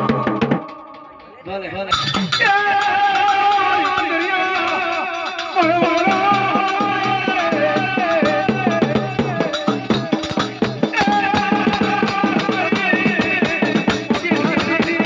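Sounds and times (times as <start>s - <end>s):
fast steady percussion: 0.0s - 15.0s.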